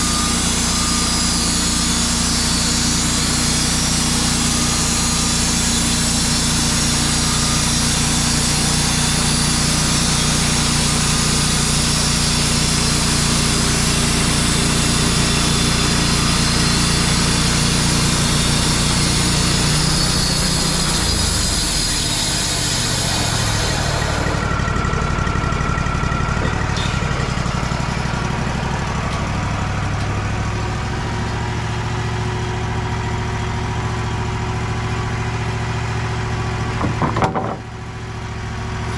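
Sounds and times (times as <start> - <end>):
band blade sawing log: 0.0 - 32.0
sawmill engine running: 0.0 - 38.9.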